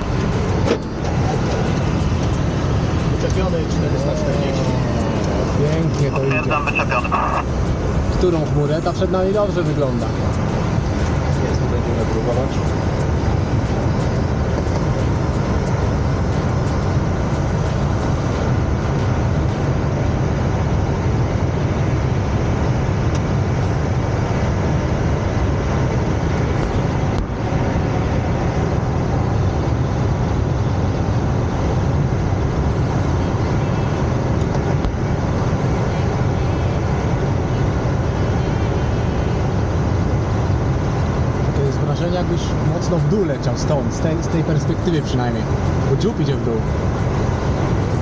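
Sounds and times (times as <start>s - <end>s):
air rushing around glider cockpit: 0.0s - 48.0s.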